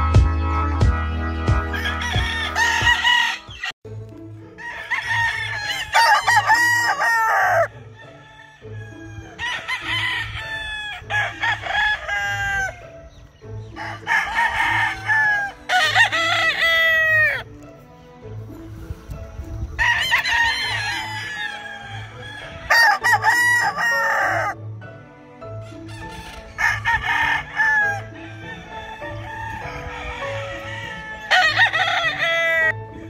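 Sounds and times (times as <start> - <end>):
background music with low beat: 0.0 - 33.0
roosters crowing: 1.3 - 3.8, 4.4 - 17.5, 19.7 - 24.6, 25.6 - 33.0.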